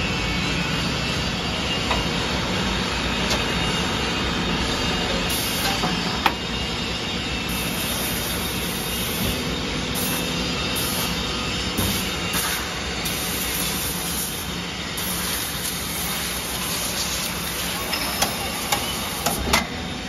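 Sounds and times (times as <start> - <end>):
machine whirring and humming: 0.0 - 20.0.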